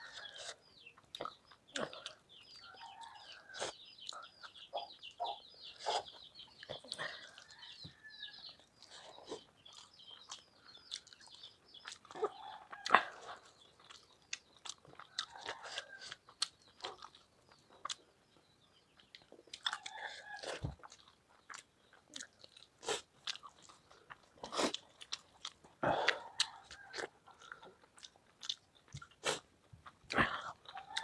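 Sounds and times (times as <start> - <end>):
person chewing with mouth smacks: 0.0 - 5.1, 5.8 - 18.1, 19.0 - 31.0.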